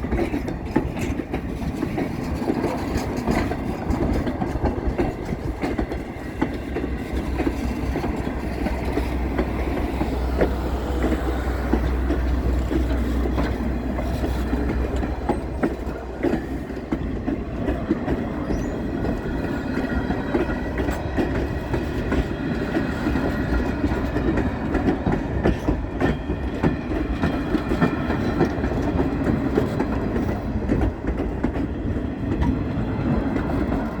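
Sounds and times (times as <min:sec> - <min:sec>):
train running noise: 0:00.0 - 0:34.0
wheels clattering over rail joints: 0:00.0 - 0:34.0.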